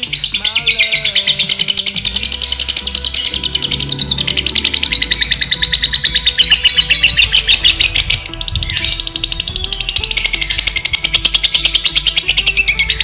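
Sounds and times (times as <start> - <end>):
bird chattering trill: 0.0 - 13.0.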